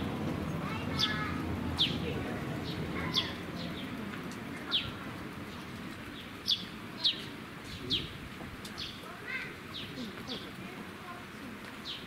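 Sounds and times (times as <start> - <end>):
low background murmur: 0.0 - 12.0
small birds chirping: 0.0 - 12.0.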